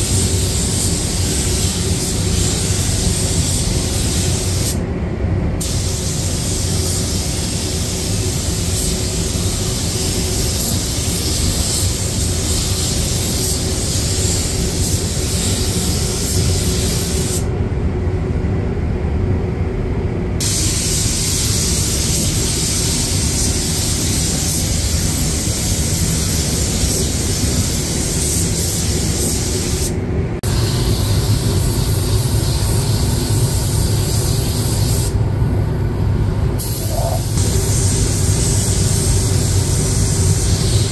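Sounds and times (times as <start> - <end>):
paint spray gun hissing: 0.0 - 4.8, 5.6 - 17.5, 20.4 - 35.2, 36.6 - 40.9.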